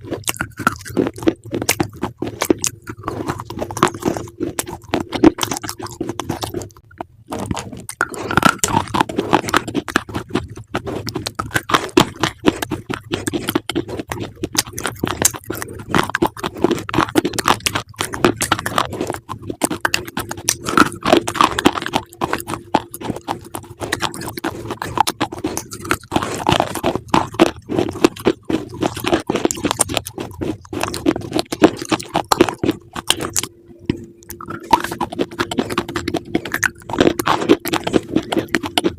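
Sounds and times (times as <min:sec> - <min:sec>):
chewing crunchy food: 0:00.0 - 0:38.9
steady low hum: 0:00.0 - 0:38.9.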